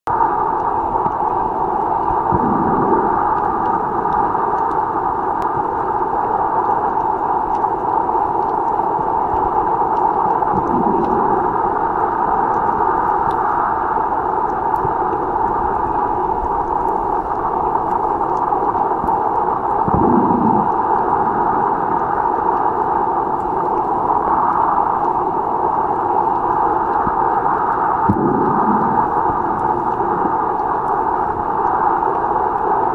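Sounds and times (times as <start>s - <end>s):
muffled underwater noise: 0.1s - 32.9s
faint clicks: 0.2s - 32.9s.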